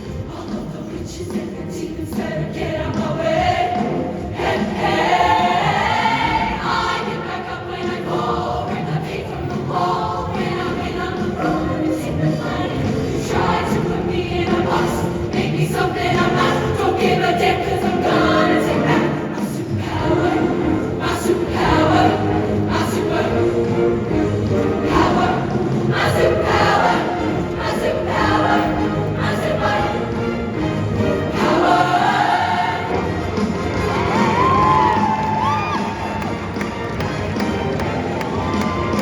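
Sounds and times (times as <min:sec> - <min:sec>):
choir singing in chorus: 0:00.0 - 0:39.0.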